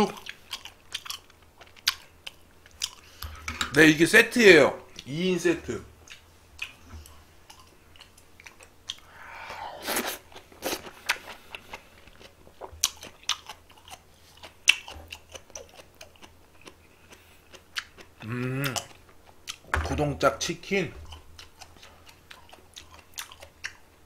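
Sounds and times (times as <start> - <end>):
person chewing crunchy food: 0.0 - 3.4, 6.0 - 19.7, 21.0 - 24.0.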